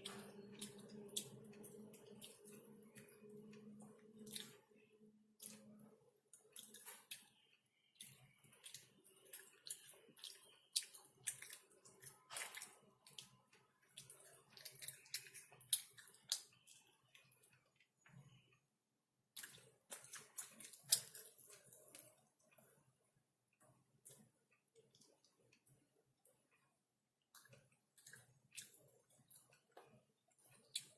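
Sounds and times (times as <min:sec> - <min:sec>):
wet chewing mouth sounds: 0:00.0 - 0:18.4, 0:19.4 - 0:22.7, 0:27.3 - 0:30.9.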